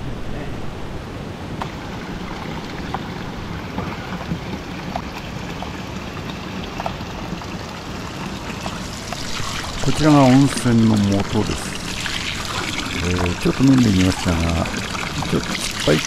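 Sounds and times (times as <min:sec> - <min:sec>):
water stream splashing: 0:01.4 - 0:16.0
water drips and plinks: 0:01.6 - 0:16.0.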